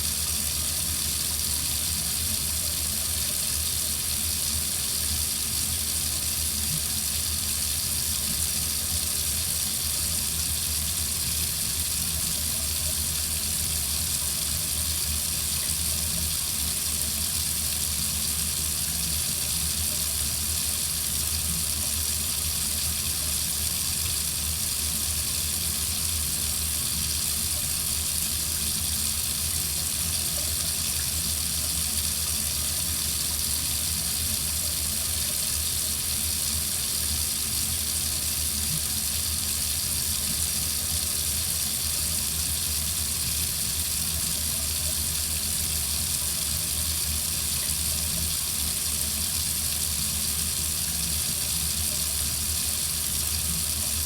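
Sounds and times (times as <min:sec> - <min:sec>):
water running from a faucet: 0:00.0 - 0:54.0.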